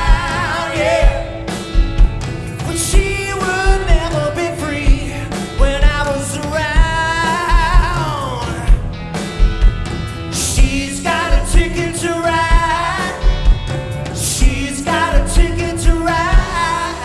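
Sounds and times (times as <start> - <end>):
man singing soul-pop song: 0.0 - 1.7, 2.5 - 9.0, 10.4 - 17.0
band with drum beat: 0.0 - 17.0.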